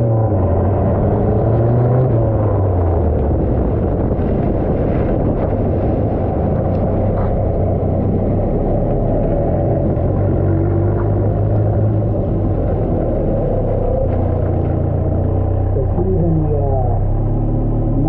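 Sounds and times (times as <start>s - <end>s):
pickup truck engine: 0.0s - 18.0s
wind and road noise: 0.0s - 18.0s.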